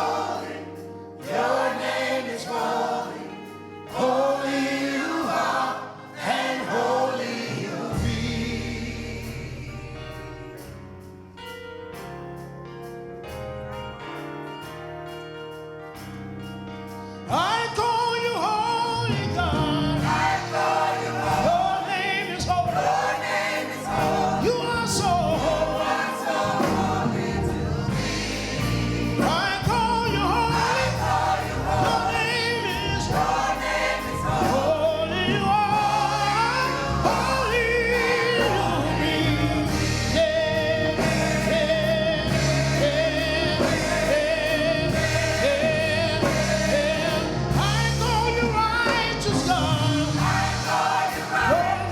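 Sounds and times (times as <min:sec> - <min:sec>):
gospel choir singing: 0:00.0 - 0:11.1, 0:17.1 - 0:51.9
instrumental accompaniment: 0:00.0 - 0:51.9.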